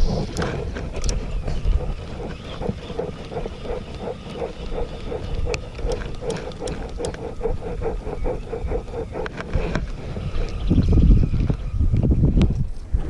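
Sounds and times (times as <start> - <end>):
fishing reel whirring: 0.0 - 12.0
wind rumble on microphone: 0.0 - 13.0.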